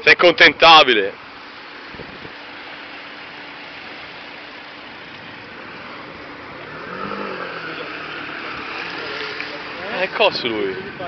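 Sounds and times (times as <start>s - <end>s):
running floodwater: 0.0s - 11.0s.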